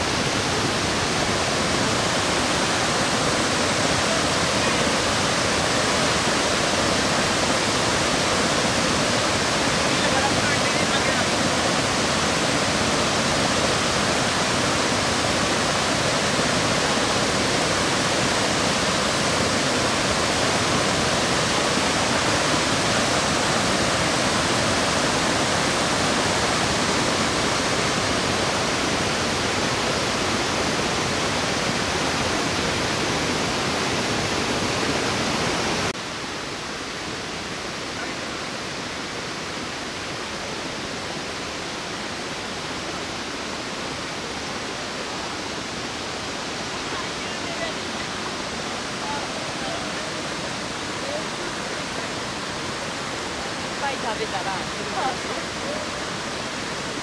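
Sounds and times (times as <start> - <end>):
waterfall and rapids rushing: 0.0 - 57.0.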